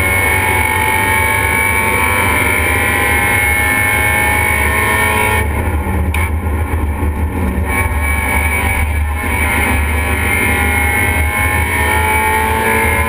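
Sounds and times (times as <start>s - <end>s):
race car engine at speed: 0.0s - 13.0s.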